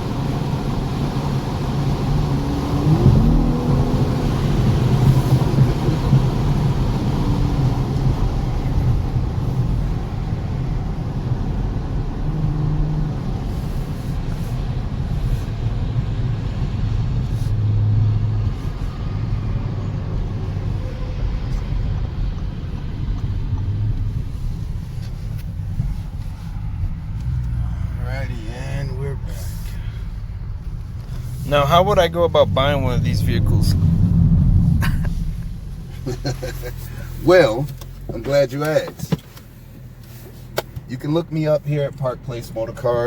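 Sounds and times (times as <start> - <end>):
car engine low rumble: 0.0 - 43.0
road noise: 0.0 - 43.0.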